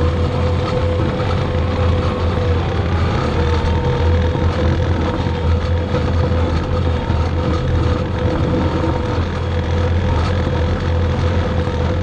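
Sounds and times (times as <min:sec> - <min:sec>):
diesel engine running: 0:00.0 - 0:12.0
steady whine: 0:00.0 - 0:12.0.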